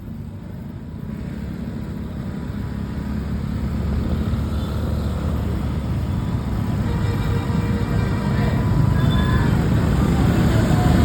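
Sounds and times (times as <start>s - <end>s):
heavy vehicle engine and tyres: 0.0s - 11.0s.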